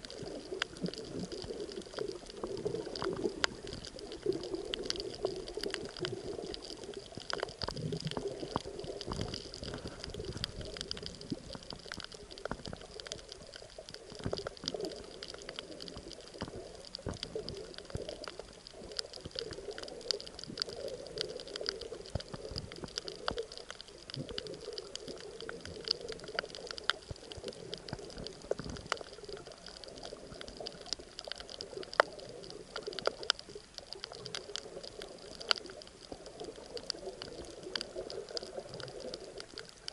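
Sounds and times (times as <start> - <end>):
muffled underwater water wash: 0.0 - 39.9
sharp underwater clicks: 0.0 - 39.9.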